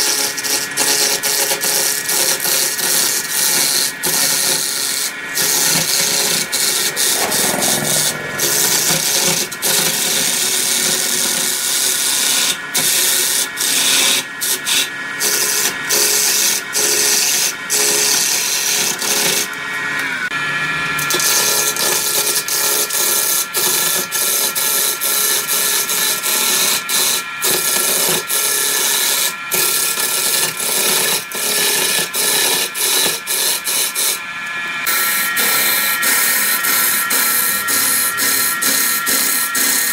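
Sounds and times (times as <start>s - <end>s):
gouge cutting wood on lathe: 0.0s - 39.9s
lathe high whine: 0.0s - 39.9s.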